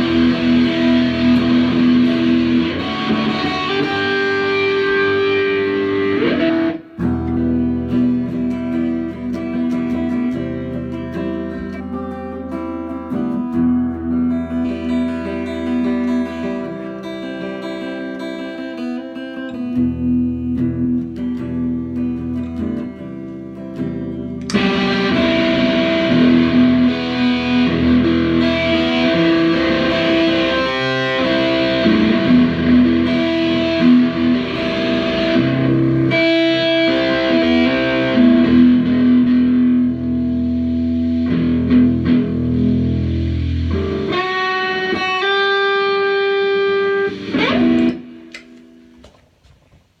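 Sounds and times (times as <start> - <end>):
solo guitar playing: 0.0 - 49.2.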